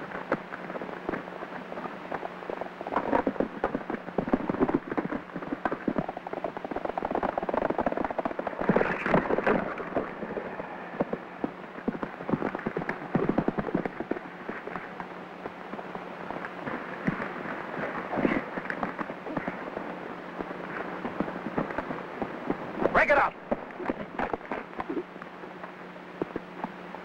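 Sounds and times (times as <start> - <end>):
old film soundtrack hum: 0.0 - 27.0.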